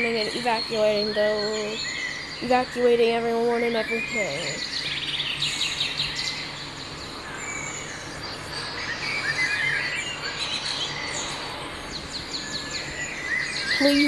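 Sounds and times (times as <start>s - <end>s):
background hiss: 0.0s - 14.0s
birds chirping and singing: 0.0s - 14.0s
faint low hum: 0.0s - 14.0s.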